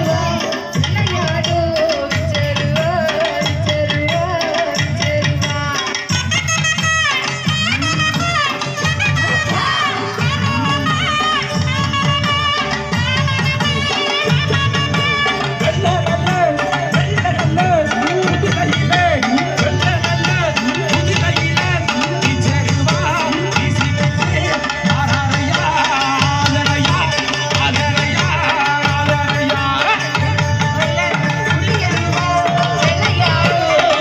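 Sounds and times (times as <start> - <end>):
hand drum beat: 0.0 - 34.0.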